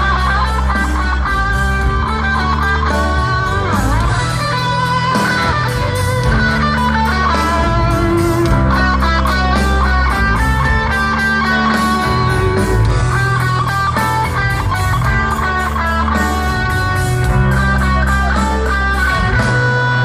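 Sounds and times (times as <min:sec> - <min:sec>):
bass guitar: 0:00.0 - 0:20.0
drums beating: 0:00.0 - 0:20.0
electric guitars: 0:00.0 - 0:20.0.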